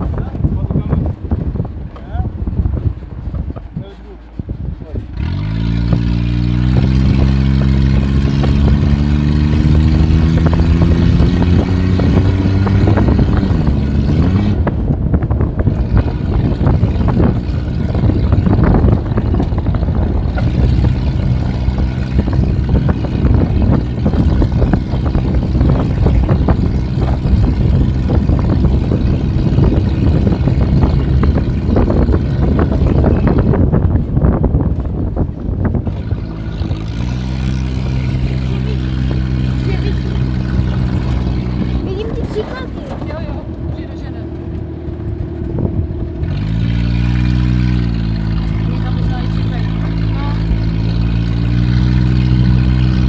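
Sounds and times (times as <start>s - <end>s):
rattles and knocks on rough ground: 0.0s - 53.0s
vehicle engine pulling away: 0.0s - 53.0s.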